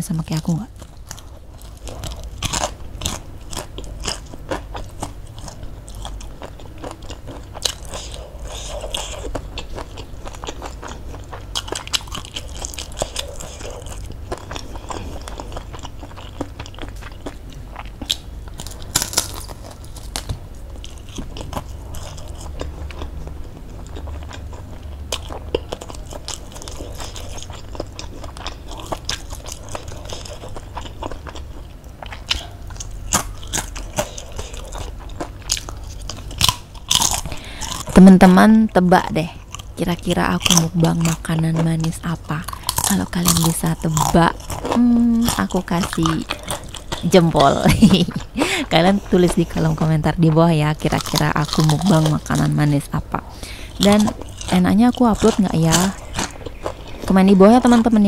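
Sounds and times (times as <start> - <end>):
crunching and chewing fried food: 0.0 - 58.0.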